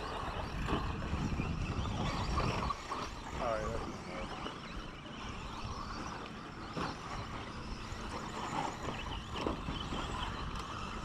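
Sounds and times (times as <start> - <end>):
small motors and tyres running: 0.0 - 11.0.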